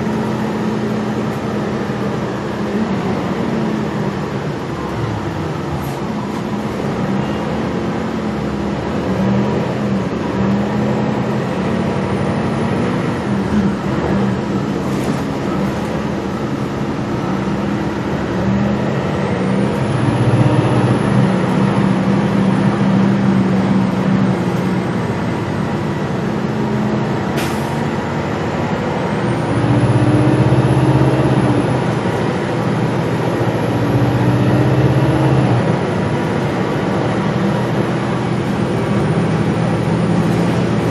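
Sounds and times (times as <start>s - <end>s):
bus engine accelerating: 0.0s - 40.9s.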